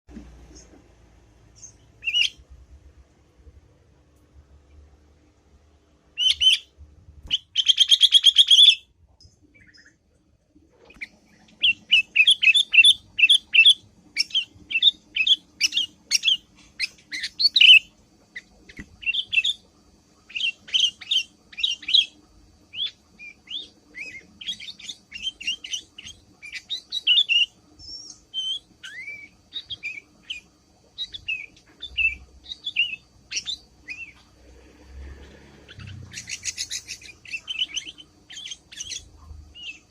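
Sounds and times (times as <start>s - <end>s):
bulbul chattering: 1.5s - 2.4s, 6.2s - 10.1s, 10.8s - 39.9s.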